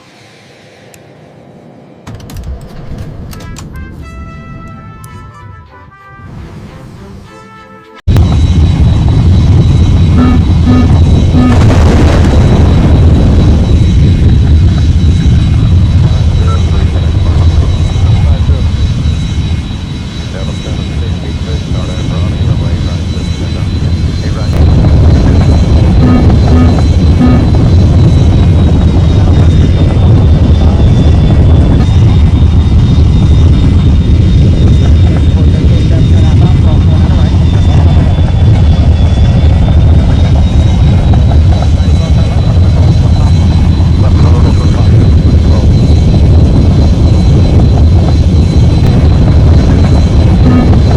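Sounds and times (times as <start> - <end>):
jet engine rumble with whine: 0.0 - 5.0, 8.1 - 50.9.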